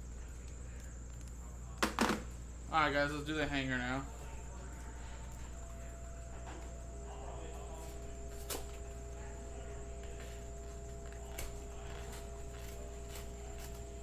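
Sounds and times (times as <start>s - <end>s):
faint steady tones: 0.0s - 14.0s
low hum: 2.4s - 14.0s.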